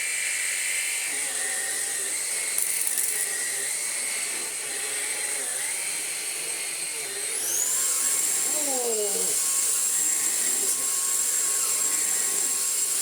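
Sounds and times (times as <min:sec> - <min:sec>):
stick vacuum whining: 0:02.2 - 0:13.0.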